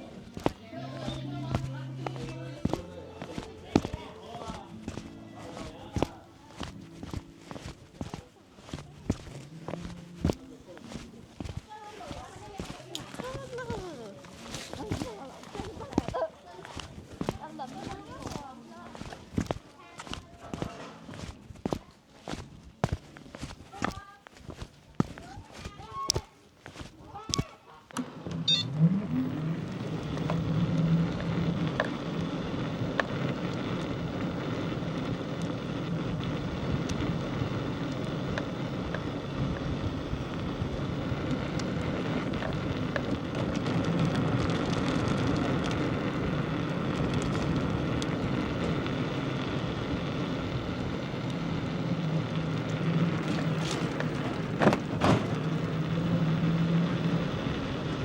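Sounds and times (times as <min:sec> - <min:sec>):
vehicle road noise: 0:00.0 - 0:58.0.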